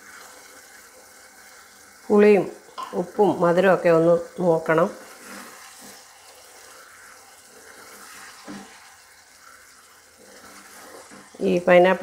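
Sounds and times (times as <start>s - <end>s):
sizzling hiss: 0.0s - 12.0s.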